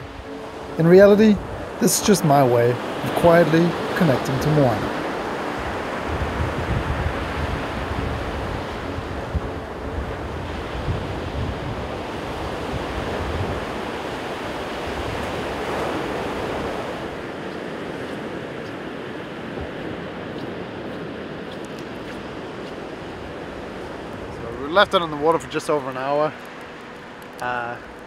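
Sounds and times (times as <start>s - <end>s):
ocean surf breaking on beach: 0.0s - 28.0s
wind buffeting microphone: 0.0s - 28.0s.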